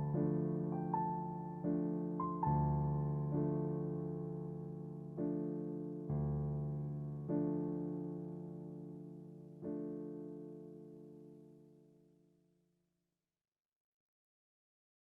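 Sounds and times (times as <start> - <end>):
soft piano music: 0.0 - 12.4.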